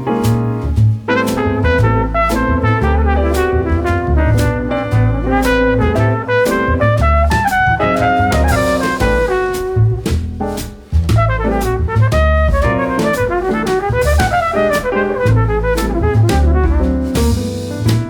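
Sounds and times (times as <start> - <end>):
horn-like melody over drums: 1.1 - 10.3, 11.0 - 18.0.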